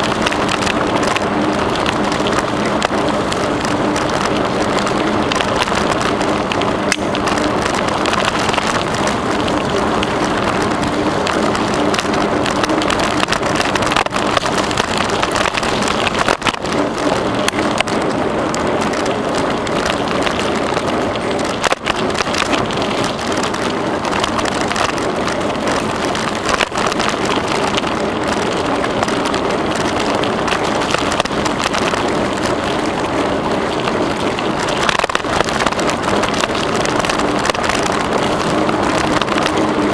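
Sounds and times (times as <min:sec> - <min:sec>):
bicycle tyres rolling on path: 0:00.0 - 0:39.9
small clicks and rattles: 0:00.0 - 0:39.9.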